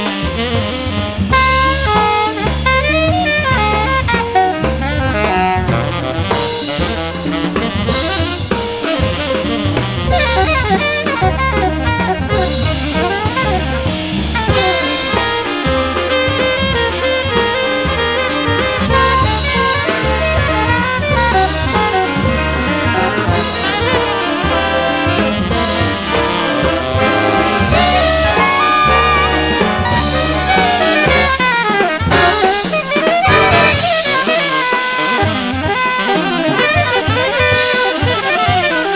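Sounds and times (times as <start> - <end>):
drum kit beat: 0.0 - 38.9
jazz horns: 0.0 - 38.9.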